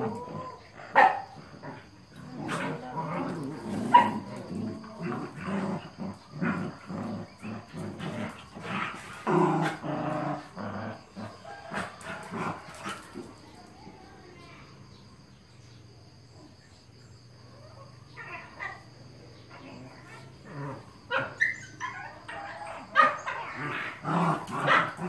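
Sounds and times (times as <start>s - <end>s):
dogs growling and barking: 0.0s - 13.8s, 16.0s - 25.0s.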